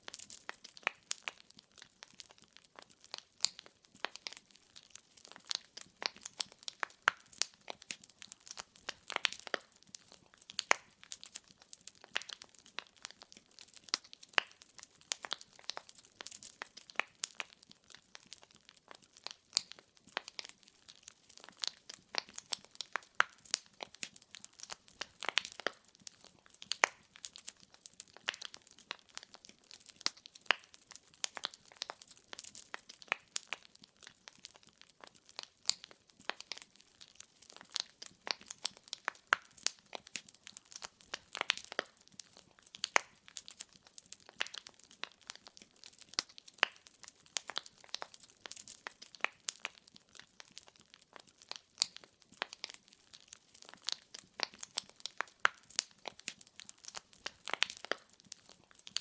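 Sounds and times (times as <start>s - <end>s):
firewood crackling and popping: 0.0s - 59.0s.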